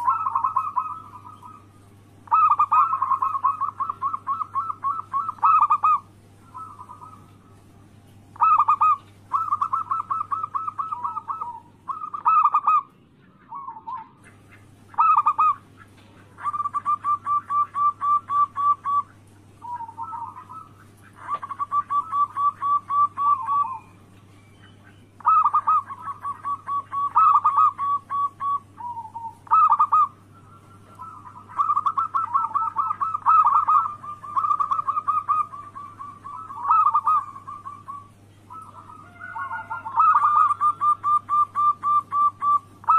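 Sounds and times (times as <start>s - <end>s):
doves cooing: 0.0s - 42.9s
faint low hum: 0.0s - 42.9s.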